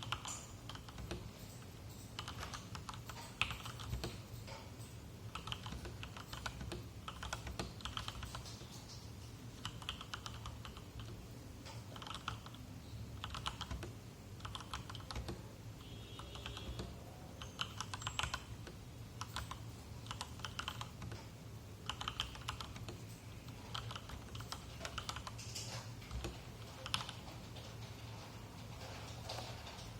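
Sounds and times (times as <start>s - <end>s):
mechanical keyboard typing: 0.0s - 9.0s, 9.6s - 12.6s, 13.2s - 15.5s, 16.2s - 28.0s.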